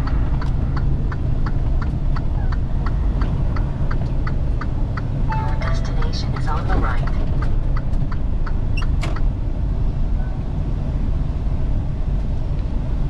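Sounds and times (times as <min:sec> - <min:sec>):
road noise: 0:00.0 - 0:13.0
truck diesel engine from inside cab: 0:00.0 - 0:13.0.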